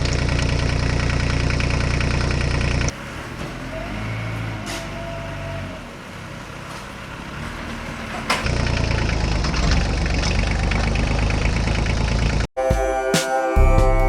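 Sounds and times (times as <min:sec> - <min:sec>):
engine humming: 0:00.0 - 0:12.5.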